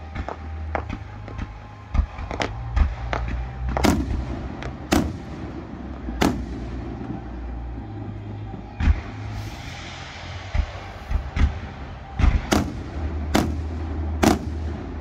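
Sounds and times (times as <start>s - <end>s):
fireworks bangs and pops: 0.0s - 9.8s, 10.4s - 15.0s
heavy fireworks booms: 0.0s - 15.0s.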